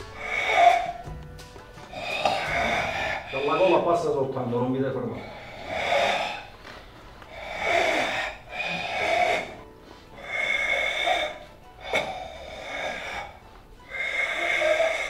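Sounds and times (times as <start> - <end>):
forceful breaths through throat: 0.0 - 3.9, 5.0 - 15.0.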